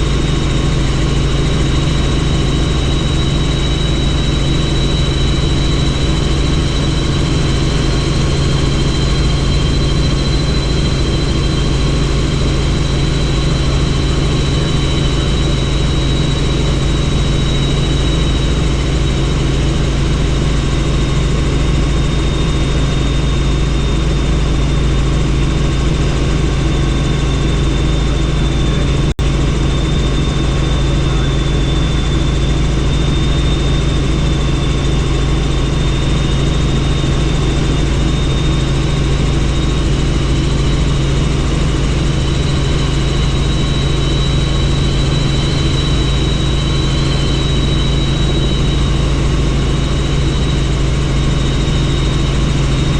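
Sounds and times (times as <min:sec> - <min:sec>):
helicopter rotor and engine drone: 0:00.0 - 0:52.9
high even whine: 0:00.0 - 0:52.9.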